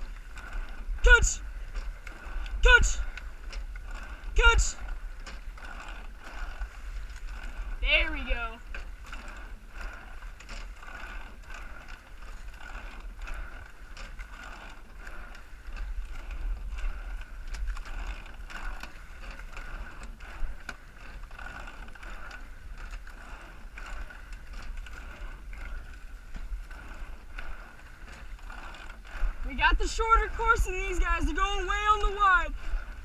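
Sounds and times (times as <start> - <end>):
oars knocking in oarlocks: 0.0 - 33.0
water rushing along hull: 0.0 - 33.0.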